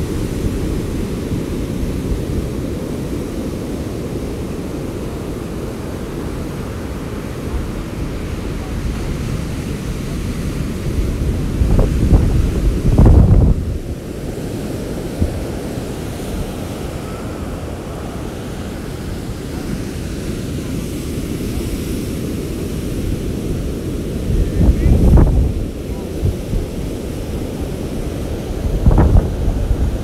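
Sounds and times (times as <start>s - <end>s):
storm surf crashing on beach: 0.0s - 30.0s
wind buffeting microphone: 0.0s - 30.0s.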